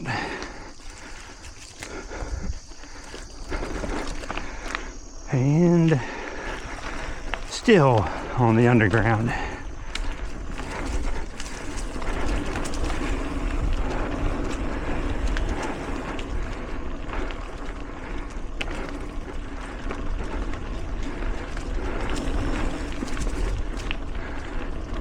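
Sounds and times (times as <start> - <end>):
bike clicks and rattles: 0.0 - 5.2, 5.9 - 25.0
tyre and wind noise: 0.0 - 25.0
wind buffeting microphone: 0.0 - 25.0.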